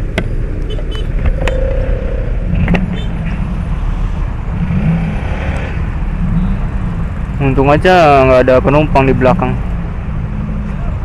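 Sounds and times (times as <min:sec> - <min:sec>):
vehicle engines rumbling in traffic: 0:00.0 - 0:11.0.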